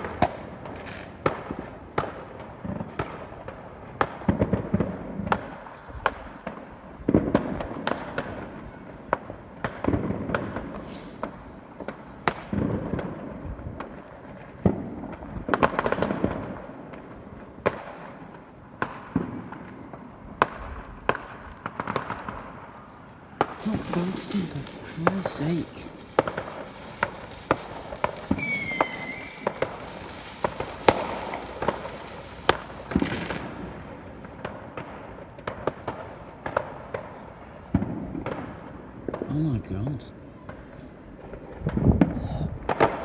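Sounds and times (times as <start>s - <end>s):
fireworks banging and crackling: 0.0s - 40.7s.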